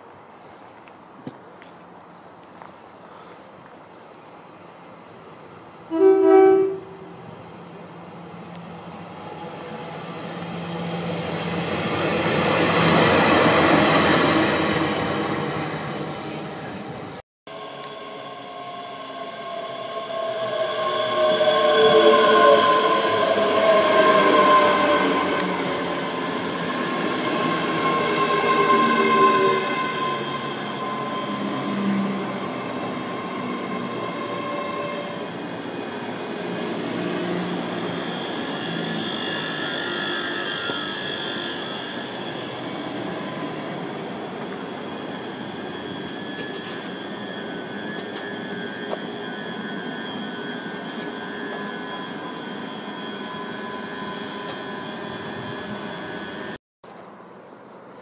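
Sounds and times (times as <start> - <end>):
train wheel and rail noise: 0.0 - 58.0.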